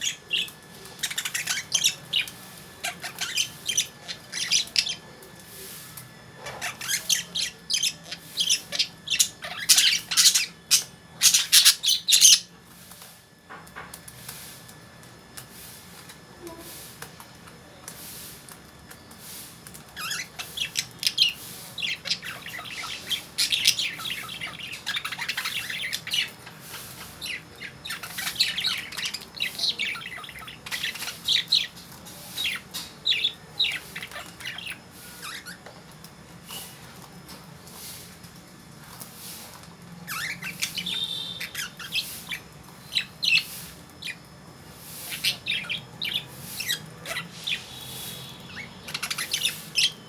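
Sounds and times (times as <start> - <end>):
lovebirds chirping: 0.0 - 12.6, 16.5 - 38.2, 38.8 - 50.0.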